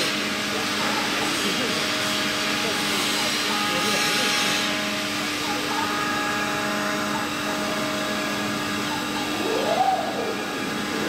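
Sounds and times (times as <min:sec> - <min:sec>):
milling machine motor whine: 0:00.0 - 0:11.0.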